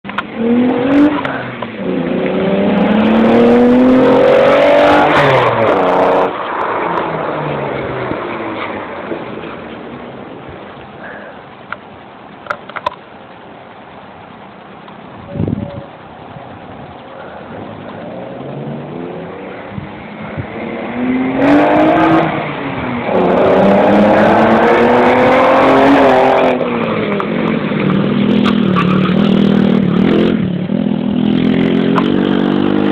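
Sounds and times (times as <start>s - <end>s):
car engine accelerating hard: 0.1s - 11.7s, 15.0s - 32.9s.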